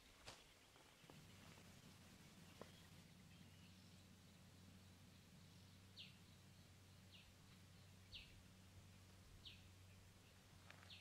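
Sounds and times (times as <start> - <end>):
faint high bird chirps: 0.0 - 11.0
low steady hum: 0.0 - 11.0.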